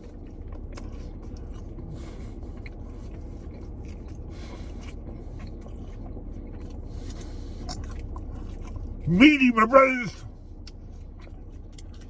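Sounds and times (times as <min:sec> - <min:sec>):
low steady hum: 0:00.0 - 0:12.0
person chewing: 0:00.0 - 0:12.0.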